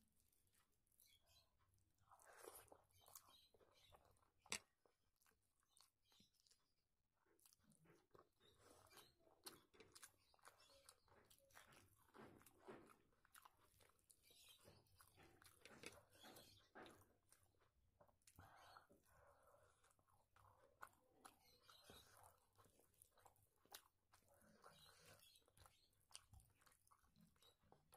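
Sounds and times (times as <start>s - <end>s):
fingers squelching food: 0.5s - 27.9s
chewing and lip smacks: 2.0s - 27.9s.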